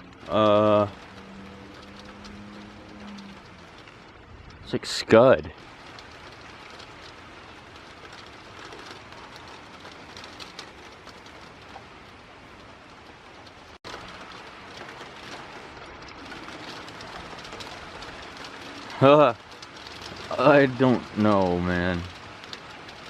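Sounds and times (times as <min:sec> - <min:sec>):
rain pattering: 0:00.0 - 0:23.0.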